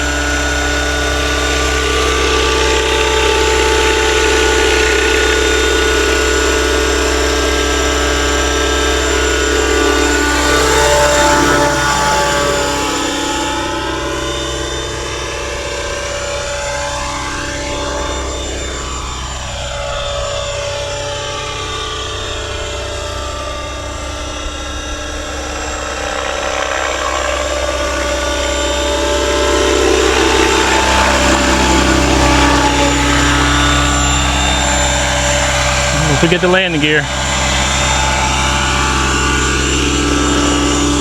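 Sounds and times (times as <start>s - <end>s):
rc helicopter rotor whine: 0.0s - 41.0s.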